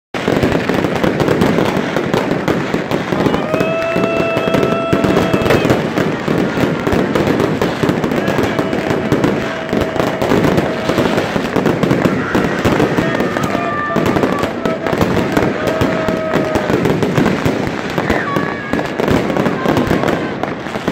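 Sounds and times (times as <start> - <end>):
fireworks and firecrackers banging: 0.1 - 20.9.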